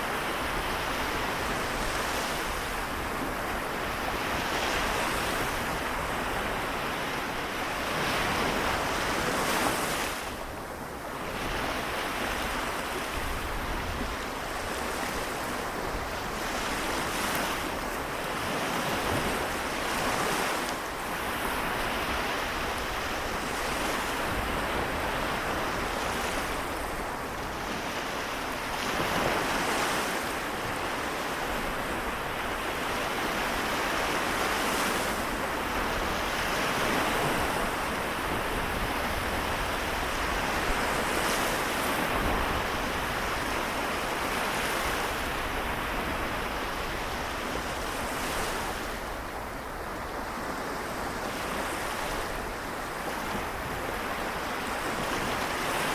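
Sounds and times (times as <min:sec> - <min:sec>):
sea waves washing onto shore: 0:00.0 - 0:55.9
wind rumble on microphone: 0:00.0 - 0:55.9.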